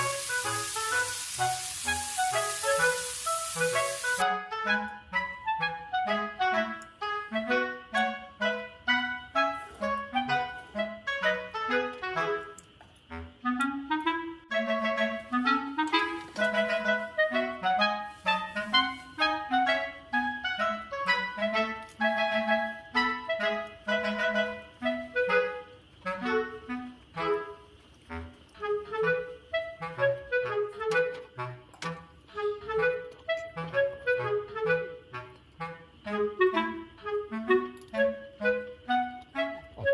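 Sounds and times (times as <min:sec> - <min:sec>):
lively melody of short notes: 0:00.0 - 0:39.9.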